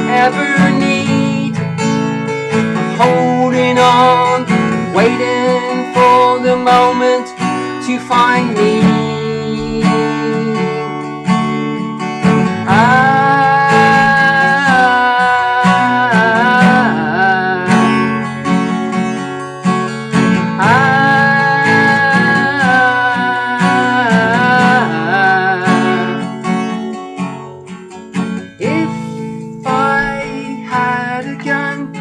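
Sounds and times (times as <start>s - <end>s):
person singing wordless line: 0.0s - 1.8s, 2.8s - 11.2s, 12.5s - 18.4s, 20.3s - 26.4s, 28.4s - 32.0s
acoustic guitar strumming: 0.0s - 32.0s.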